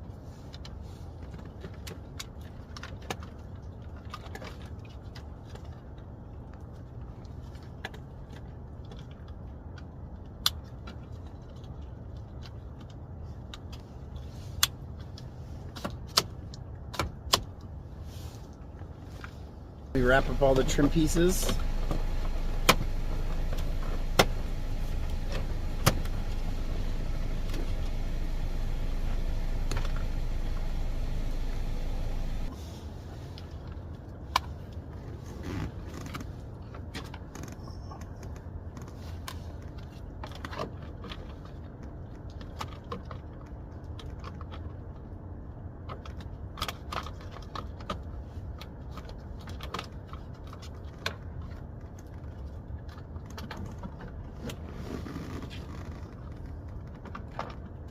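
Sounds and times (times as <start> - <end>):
steady background hum: 0.0 - 57.9.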